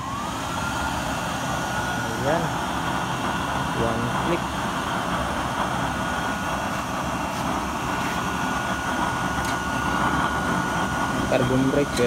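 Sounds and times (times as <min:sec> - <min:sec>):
gas burner blower whirring: 0:00.0 - 0:12.0
thin steady whine: 0:00.0 - 0:12.0.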